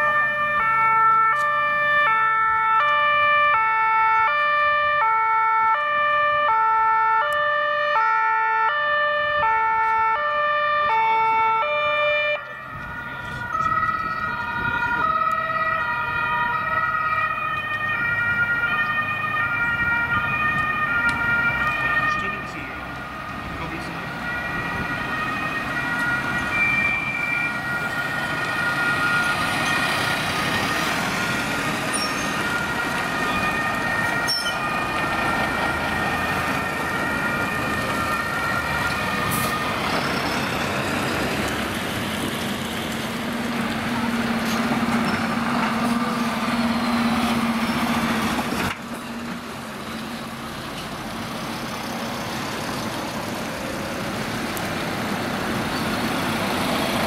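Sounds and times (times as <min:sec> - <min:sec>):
passing vehicles engine and tyre noise: 0:00.0 - 0:57.0
two-tone sirens: 0:00.0 - 0:57.0.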